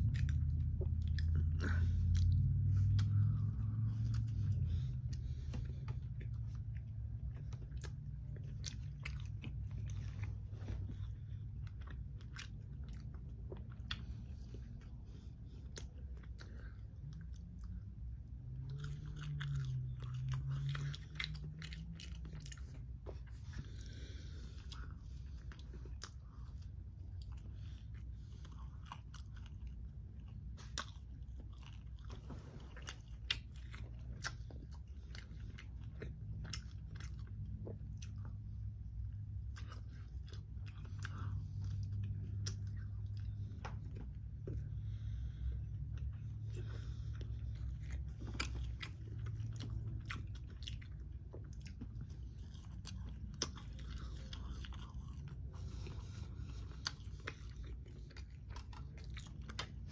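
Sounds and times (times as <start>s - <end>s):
chewing crunchy fried chicken: 0.0s - 59.9s
low hum: 0.0s - 59.9s.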